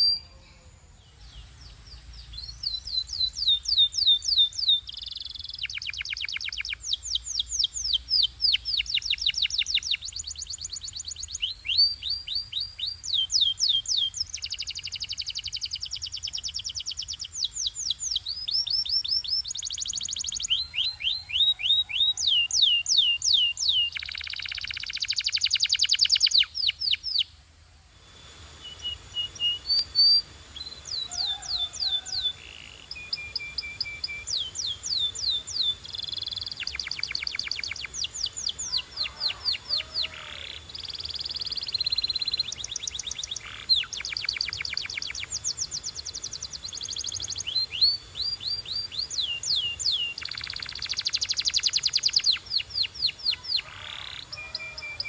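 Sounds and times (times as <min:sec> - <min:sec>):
canary singing trills: 0:00.0 - 0:27.4, 0:28.2 - 0:55.0.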